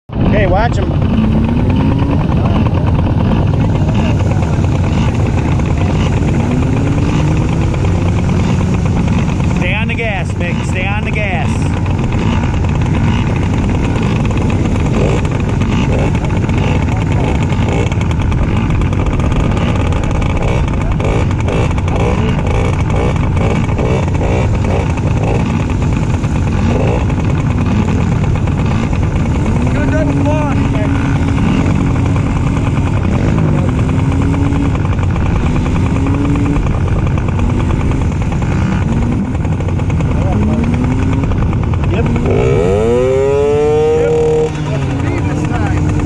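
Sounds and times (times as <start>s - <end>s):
motocross bike engines: 0.1s - 46.0s.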